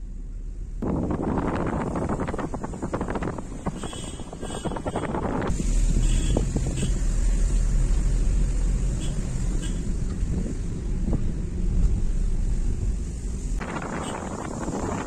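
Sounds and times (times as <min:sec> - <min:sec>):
car engine and tyres rumbling: 0:00.0 - 0:15.0
wind noise: 0:00.8 - 0:15.0.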